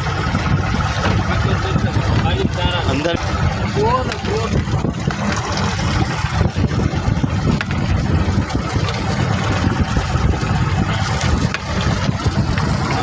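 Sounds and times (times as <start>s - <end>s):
boat engine running: 0.0s - 13.0s
wind and water rumble: 0.0s - 13.0s.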